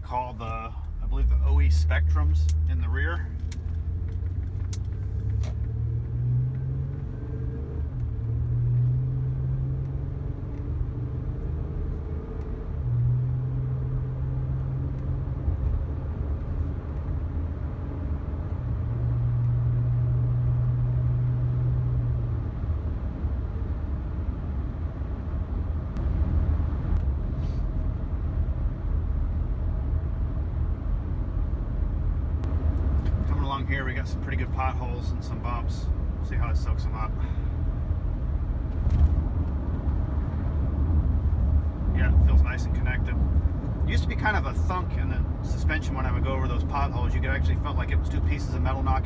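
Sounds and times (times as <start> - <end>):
car engine hum: 0.0 - 49.0
road and tyre noise: 0.0 - 49.0.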